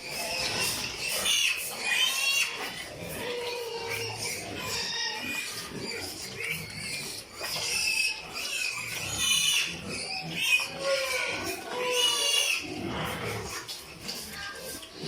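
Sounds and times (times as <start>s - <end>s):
pigs squealing: 0.0s - 15.0s.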